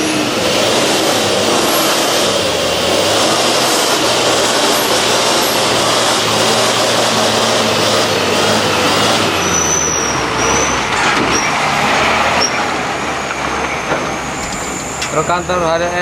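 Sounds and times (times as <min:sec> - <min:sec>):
high-pitched squeals: 0:00.0 - 0:16.0
steady rush of noise: 0:00.0 - 0:16.0
truck diesel engine passing: 0:00.0 - 0:16.0.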